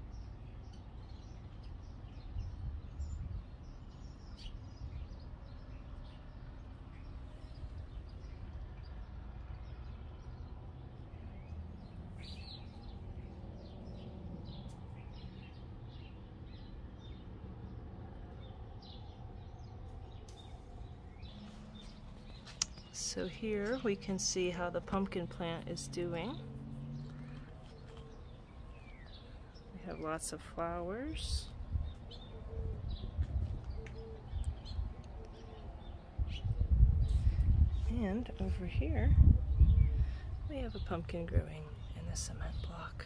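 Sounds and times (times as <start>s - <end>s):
small birds chirping: 0.0s - 43.0s
steady low rumble: 0.0s - 43.0s.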